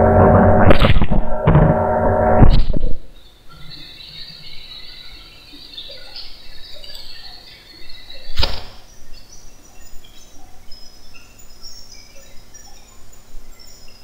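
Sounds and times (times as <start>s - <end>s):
birds chirping: 2.8s - 14.0s.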